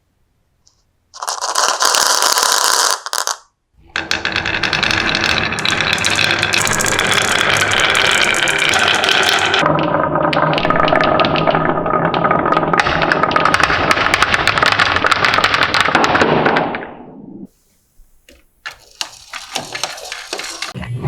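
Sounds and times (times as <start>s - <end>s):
marbles rattling down wooden run: 1.2s - 16.2s, 18.6s - 20.8s.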